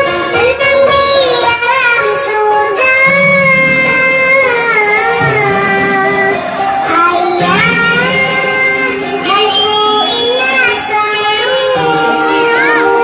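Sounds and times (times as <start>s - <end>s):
child singing: 0.0s - 13.0s
musical accompaniment: 0.0s - 13.0s.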